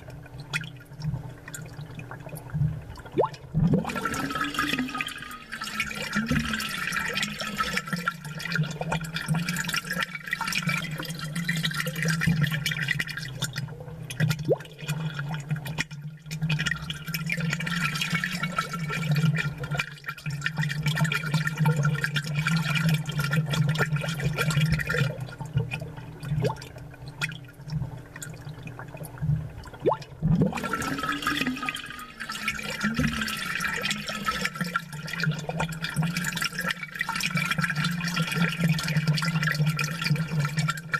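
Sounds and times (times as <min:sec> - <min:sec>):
aquarium water bubbling: 0:00.0 - 0:40.9.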